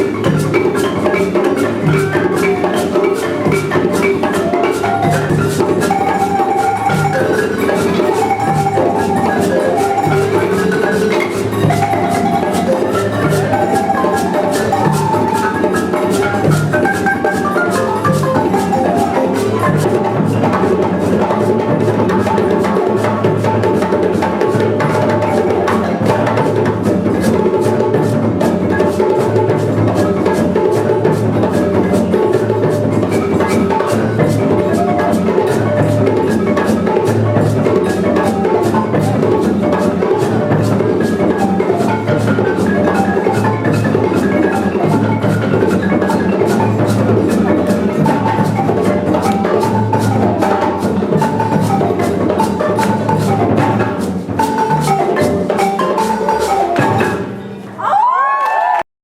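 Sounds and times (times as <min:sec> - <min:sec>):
drums: 0:00.0 - 0:58.3
wooden mallet percussion: 0:00.0 - 0:58.8.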